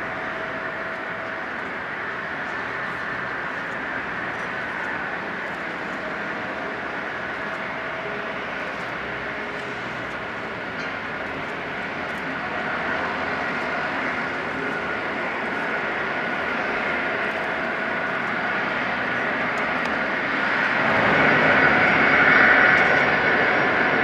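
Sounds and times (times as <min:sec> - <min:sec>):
jet engines rushing and whining: 0:00.0 - 0:24.0.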